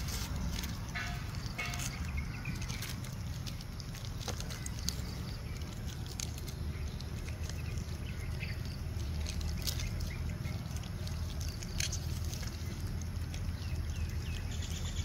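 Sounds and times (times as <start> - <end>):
faint clicks and crackles: 0.0 - 15.0
low outdoor rumble: 0.0 - 15.0.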